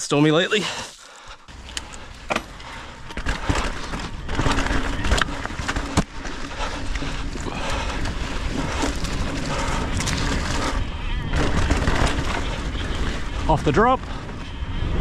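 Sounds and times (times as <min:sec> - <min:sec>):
bike knocks and rattles: 0:01.5 - 0:15.0
tyre and wind rushing: 0:01.5 - 0:15.0.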